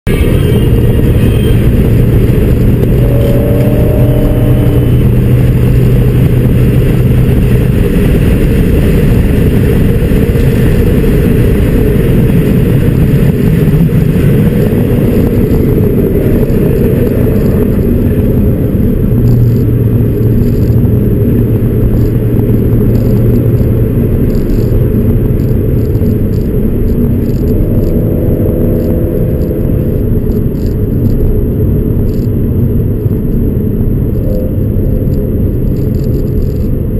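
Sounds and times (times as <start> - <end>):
loud car engine drone: 0.0 - 36.9.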